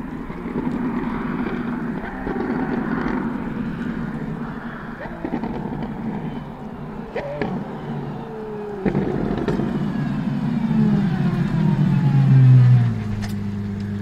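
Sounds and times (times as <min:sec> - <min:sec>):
sports car engine passing: 0:00.0 - 0:14.0.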